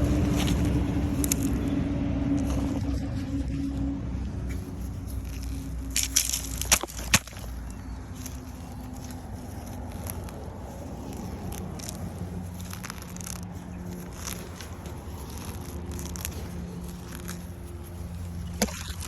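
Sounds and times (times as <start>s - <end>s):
low engine hum: 0.0s - 19.0s
rustling of weeds: 0.0s - 19.0s
weed stems snapping and crackling: 0.0s - 19.0s.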